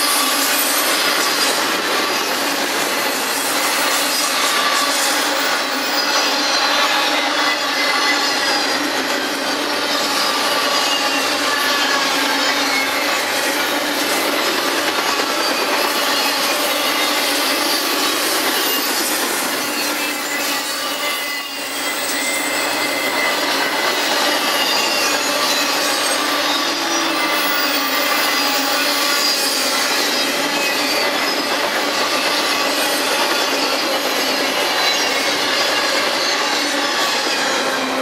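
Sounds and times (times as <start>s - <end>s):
freight train rumbling past: 0.0s - 38.0s
high wheel squeals: 0.0s - 38.0s.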